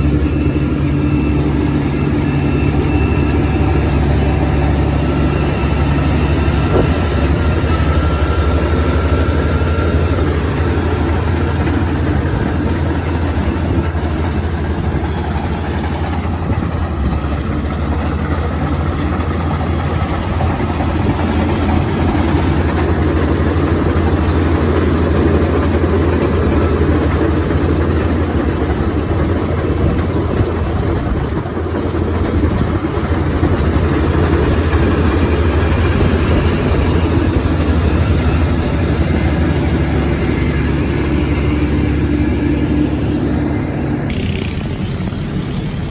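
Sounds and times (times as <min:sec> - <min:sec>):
combine harvester engine hum: 0:00.0 - 0:45.9.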